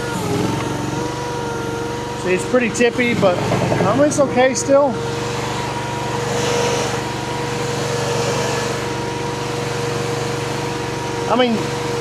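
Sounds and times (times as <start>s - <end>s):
constant whine: 0.0s - 12.0s
skid steer engine running: 0.0s - 12.0s.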